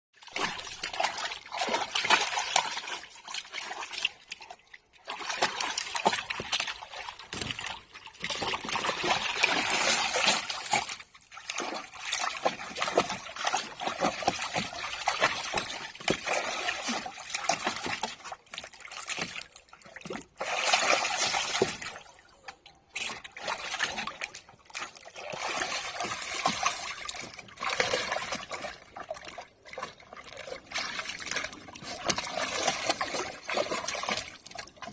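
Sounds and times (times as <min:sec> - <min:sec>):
dog splashing in water: 0:00.2 - 0:22.3, 0:22.9 - 0:34.9.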